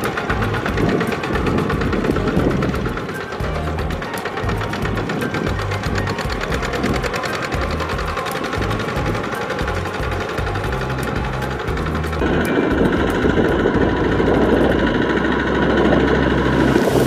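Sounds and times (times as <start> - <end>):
diesel hand tractor engine clattering: 0.0 - 17.0.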